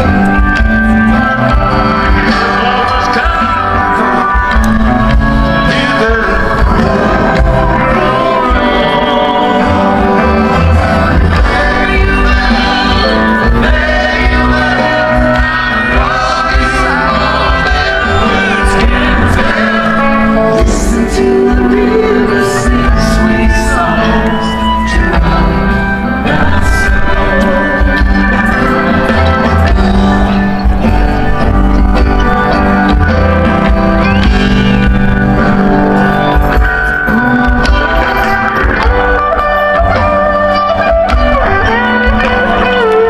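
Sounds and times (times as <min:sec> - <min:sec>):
live rock band playing: 0:00.0 - 0:43.0
person singing: 0:00.0 - 0:43.0.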